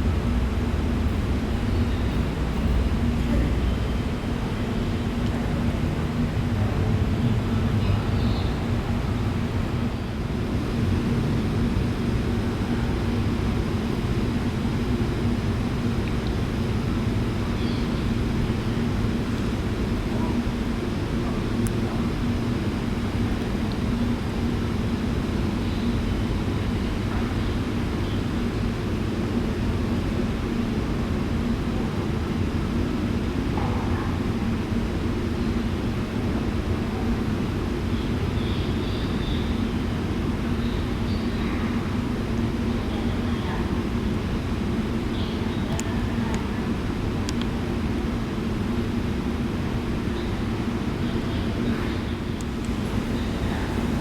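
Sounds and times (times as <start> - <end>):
airliner engines rumbling: 0.0 - 54.0
faint steady hum: 0.0 - 54.0.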